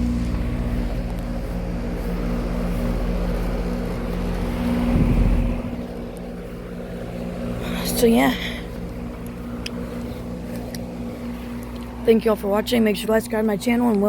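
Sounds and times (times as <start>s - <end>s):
air conditioner condenser humming: 0.0s - 14.0s.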